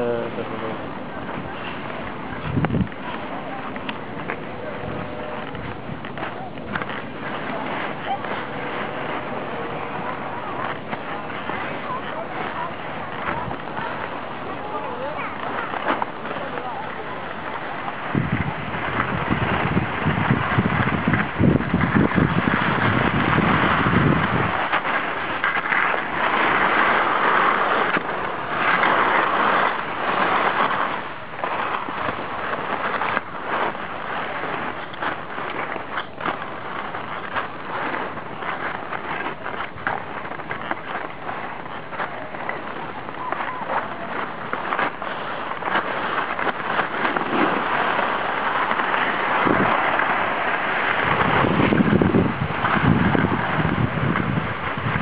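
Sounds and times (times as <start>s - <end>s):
skis scraping over snow: 0.0s - 55.0s
wind rumble on microphone: 0.0s - 55.0s.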